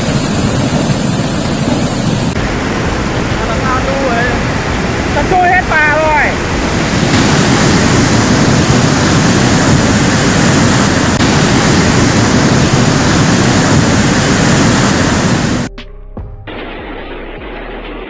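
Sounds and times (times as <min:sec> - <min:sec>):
river in flood rushing: 0:00.0 - 0:15.7.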